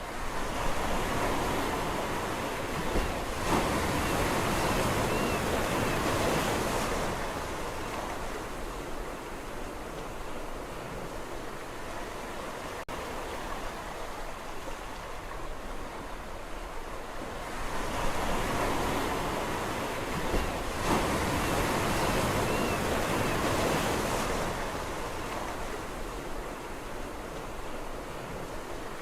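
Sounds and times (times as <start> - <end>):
sea waves washing on shore: 0.0 - 29.0.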